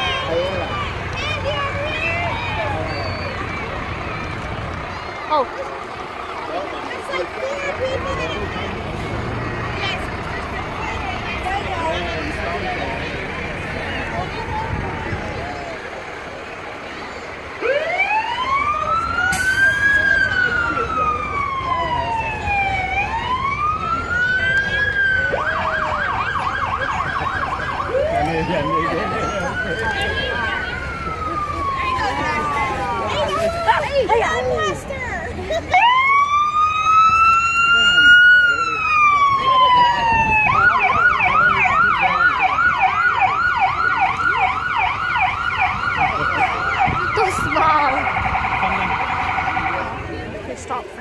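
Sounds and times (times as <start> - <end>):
emergency vehicle siren: 0.0 - 51.0.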